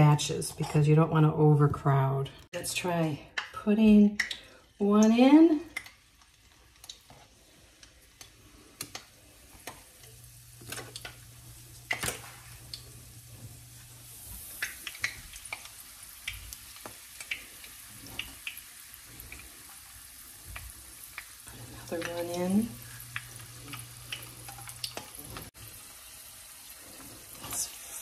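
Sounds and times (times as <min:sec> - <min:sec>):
deep-frying sizzle with crackles: 0:03.3 - 0:28.0.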